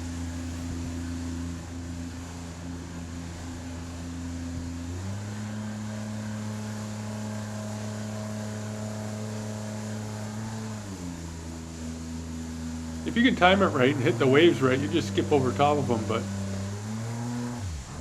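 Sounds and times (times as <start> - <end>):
jet boat motor running: 0.0 - 18.0.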